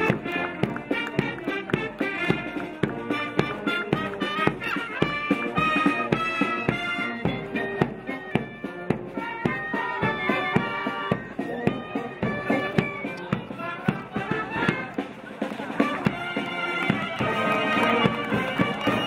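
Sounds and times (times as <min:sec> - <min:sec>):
brass and saxophones playing: 0:00.0 - 0:19.0.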